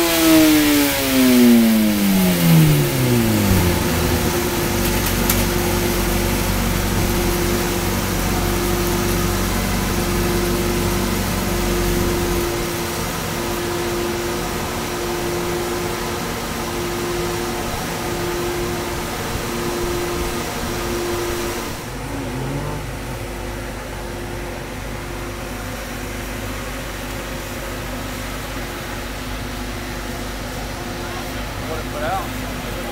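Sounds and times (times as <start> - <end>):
fan-like hum: 0.0 - 32.9
motorcycle engine idling: 0.0 - 32.9.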